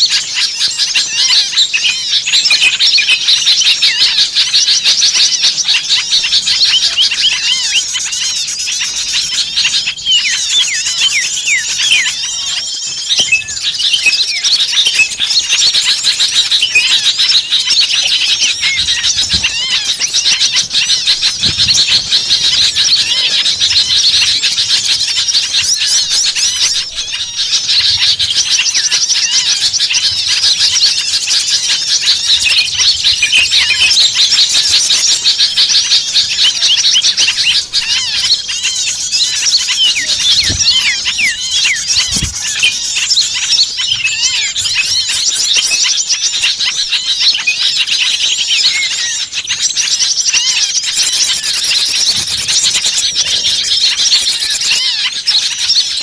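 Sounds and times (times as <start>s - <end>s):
small birds chirping agitatedly: 0.0s - 56.0s.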